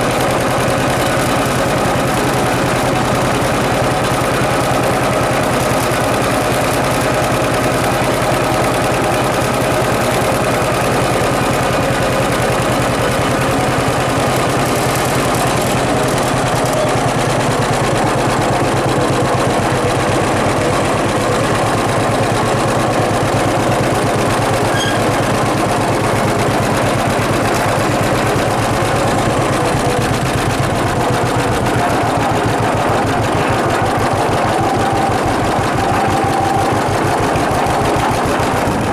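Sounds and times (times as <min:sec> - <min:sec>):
baler rhythmic mechanical clatter: 0:00.0 - 0:38.9
diesel tractor engine running: 0:00.0 - 0:38.9.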